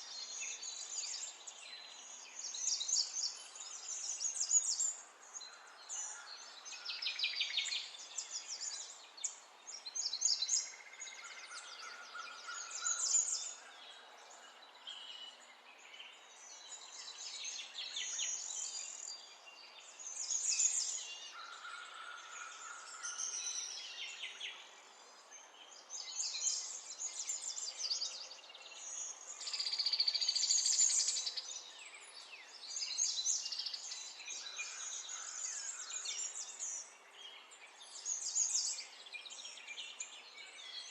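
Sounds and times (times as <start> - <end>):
birds chirping and singing: 0.1 - 40.9.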